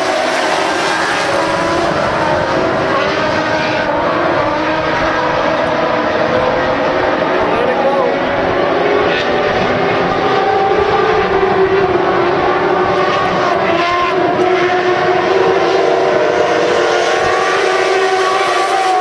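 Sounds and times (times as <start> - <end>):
race car engines in a pack: 0.0 - 19.0.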